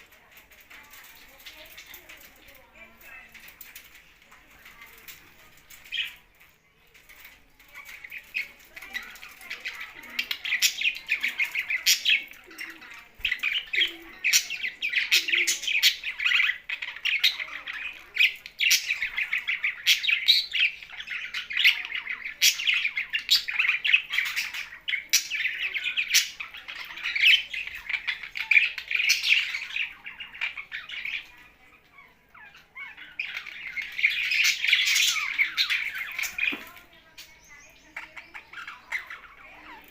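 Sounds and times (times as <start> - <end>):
budgerigars and parrots chirping: 0.0 - 39.9.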